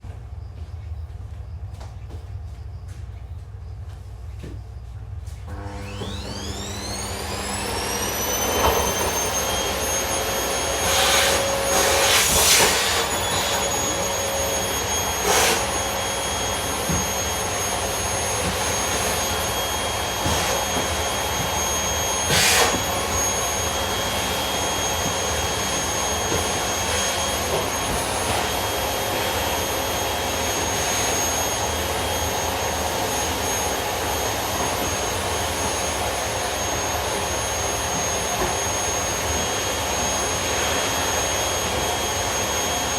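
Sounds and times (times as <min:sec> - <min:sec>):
vacuum cleaner motor whine: 0:05.3 - 0:42.9.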